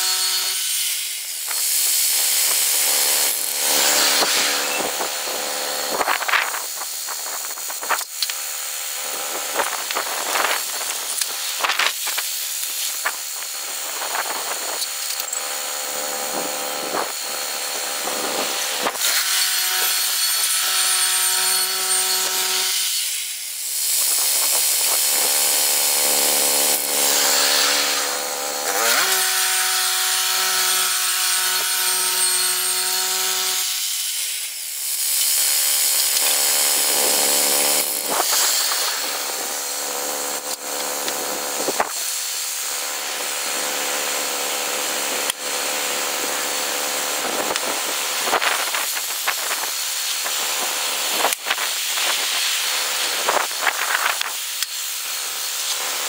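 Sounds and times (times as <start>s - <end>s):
band blade cutting log: 0.0s - 23.1s, 23.9s - 34.1s, 35.0s - 42.1s, 43.0s - 56.0s.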